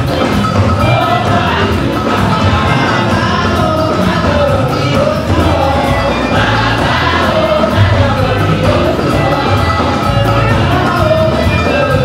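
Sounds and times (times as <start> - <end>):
amplified accompaniment with bass: 0.0 - 12.0
children's choir singing: 0.0 - 12.0.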